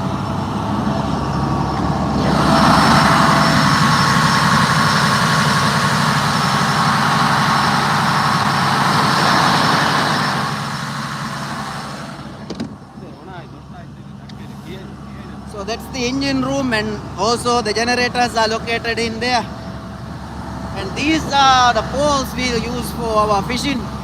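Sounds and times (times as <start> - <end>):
diesel engine running: 0.0 - 24.0
loud rush of machinery noise: 0.0 - 24.0.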